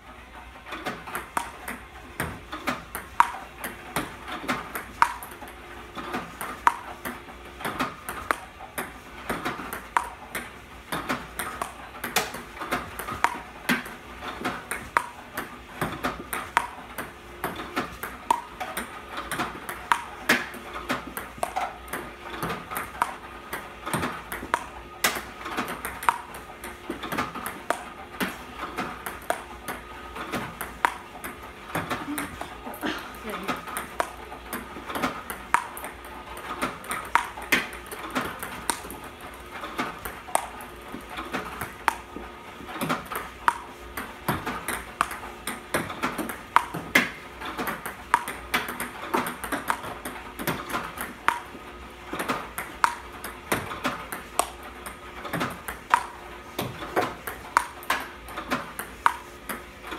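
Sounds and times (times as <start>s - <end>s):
table tennis balls bouncing: 0.6s - 59.9s
paddle hitting table tennis ball: 0.8s - 59.7s.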